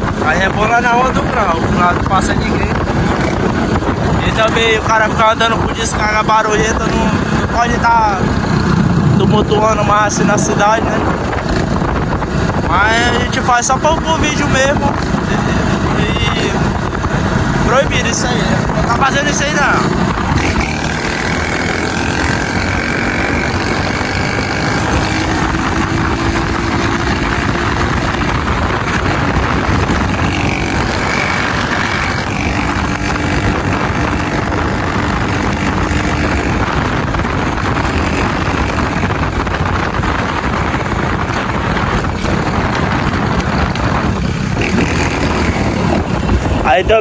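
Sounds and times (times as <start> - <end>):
motorcycle engine running: 0.0 - 47.0
rushing noise: 0.0 - 47.0.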